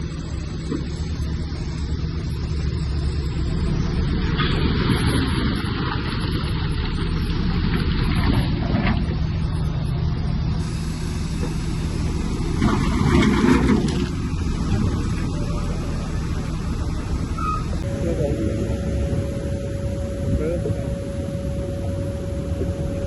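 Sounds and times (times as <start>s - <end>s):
bulldozer clatter: 0.0s - 23.0s
bulldozer diesel engine running: 0.0s - 23.0s.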